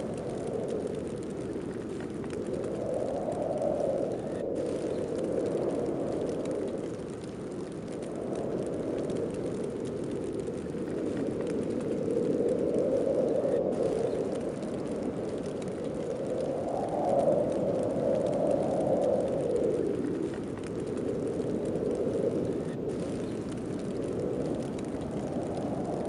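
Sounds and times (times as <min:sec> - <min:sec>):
wind gusting: 0:00.0 - 0:26.0.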